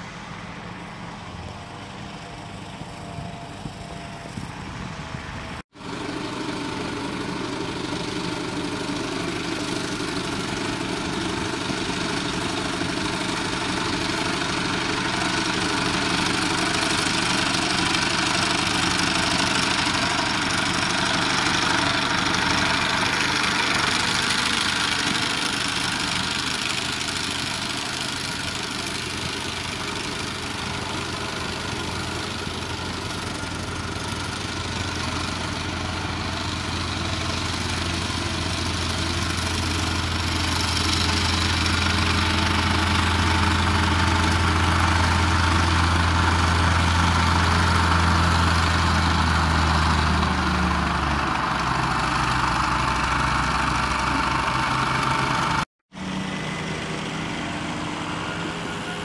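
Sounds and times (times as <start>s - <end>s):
mower engine running: 0.0s - 59.0s.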